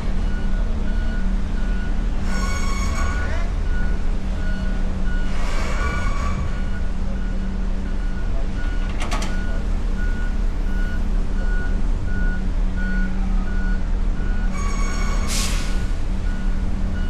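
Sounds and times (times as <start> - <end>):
low engine rumble: 0.0 - 17.0
reversing alarm beeping: 0.2 - 17.0.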